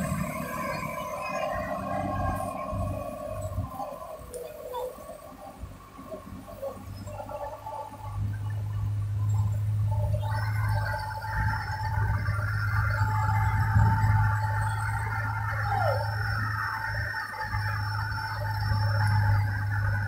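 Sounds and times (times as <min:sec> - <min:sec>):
higher wavering tones: 0:00.0 - 0:20.0
truck diesel engine drone: 0:00.0 - 0:20.0.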